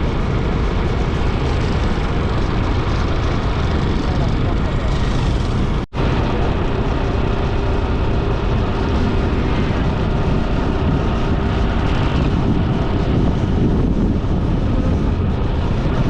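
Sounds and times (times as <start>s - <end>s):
motorcycle engine: 0.0s - 16.0s
rushing air and road noise: 0.0s - 16.0s.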